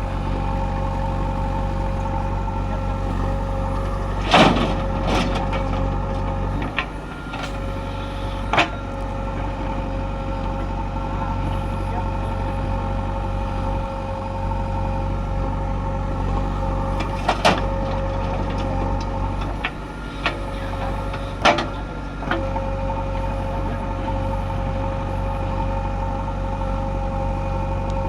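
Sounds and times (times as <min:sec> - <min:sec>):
diesel machinery engine hum: 0:00.0 - 0:28.0.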